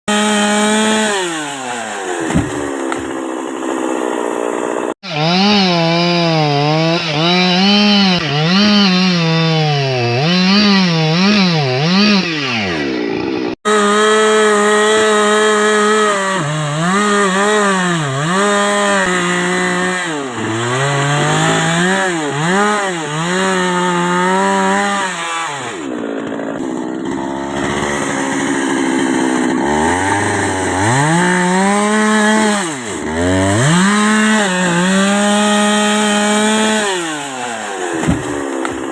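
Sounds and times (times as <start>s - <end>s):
chainsaw cutting wood: 0.1s - 38.9s.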